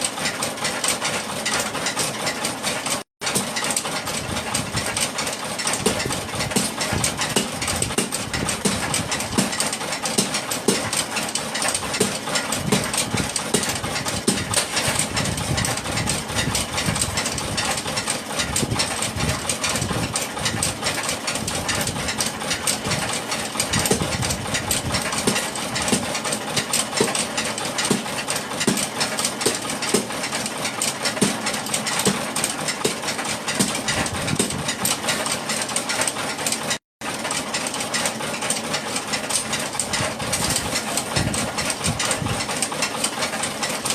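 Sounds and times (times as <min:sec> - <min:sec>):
machinery clattering: 0:00.0 - 0:43.9.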